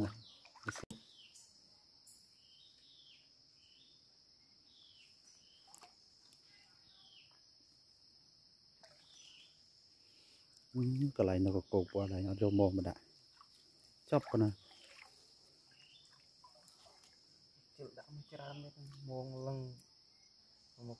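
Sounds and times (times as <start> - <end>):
insect drone: 0.0 - 20.9.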